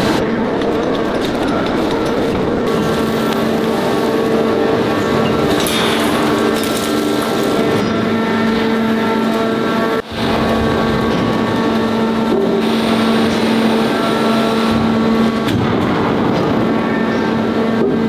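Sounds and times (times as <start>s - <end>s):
forging machinery droning: 0.0s - 18.0s.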